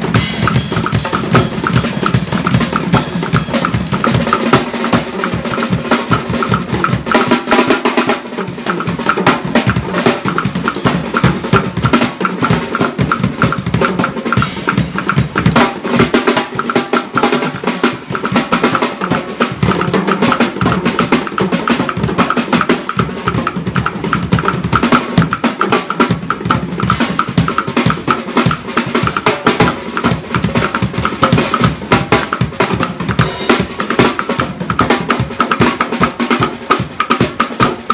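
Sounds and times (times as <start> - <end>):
cymbals: 0.0 - 37.9
fast drum kit playing: 0.0 - 37.9.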